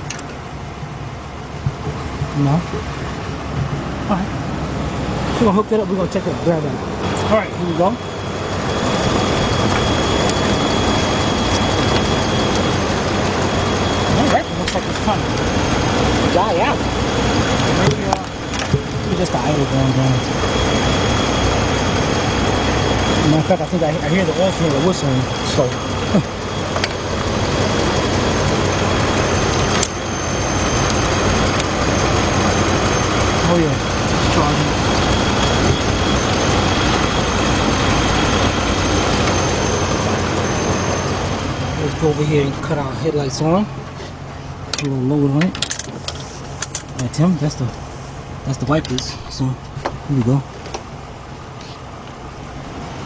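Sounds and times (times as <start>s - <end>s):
high whine: 0.0s - 53.0s
pickup engine idling: 0.0s - 53.0s.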